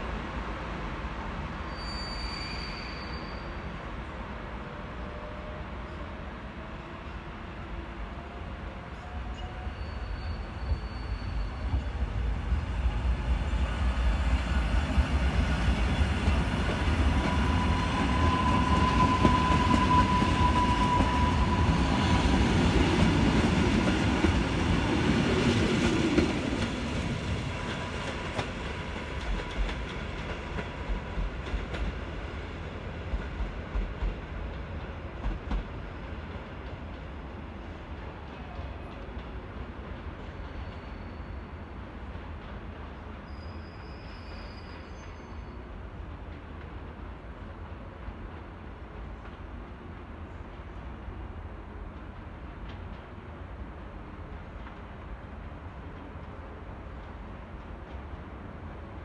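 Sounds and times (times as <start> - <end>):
electric train rumbling past: 0.0 - 59.0
train whine: 0.0 - 59.0.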